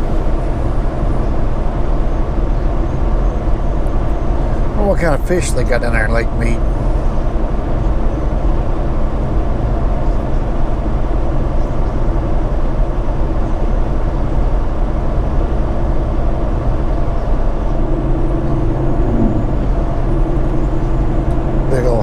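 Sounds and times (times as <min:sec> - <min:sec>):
diesel engine cruising: 0:00.0 - 0:22.0
road and tyre noise: 0:00.0 - 0:22.0.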